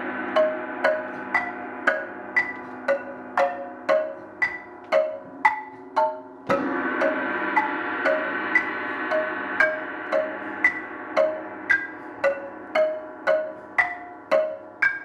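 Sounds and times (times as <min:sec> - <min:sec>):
mallet strokes on keyboard percussion: 0:00.0 - 0:15.0
sustained ringing wash: 0:00.0 - 0:15.0.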